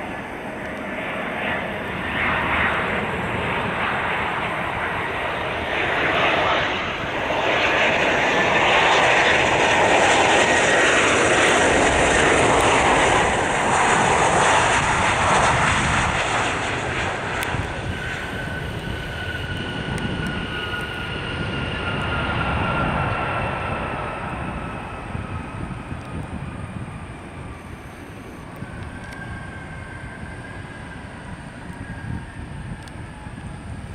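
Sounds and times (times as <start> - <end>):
jet engine roar: 0.0 - 33.9
jet engine whine: 0.0 - 33.9
rumble of jet rolling: 0.0 - 33.9.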